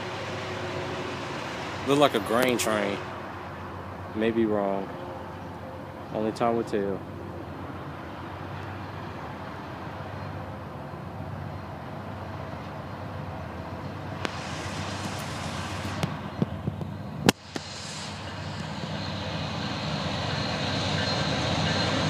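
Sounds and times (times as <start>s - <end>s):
diesel locomotive engines rumbling: 0.0s - 22.0s.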